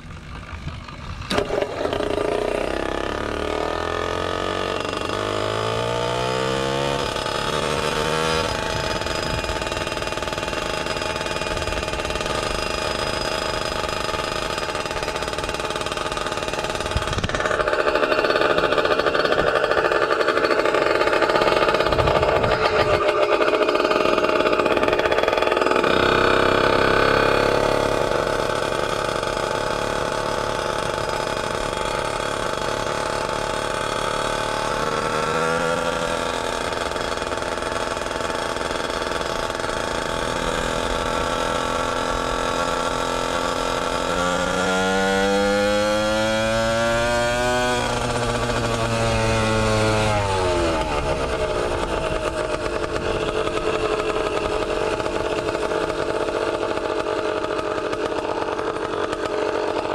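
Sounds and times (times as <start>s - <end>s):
motorized bicycle engine revving: 0.0s - 59.9s.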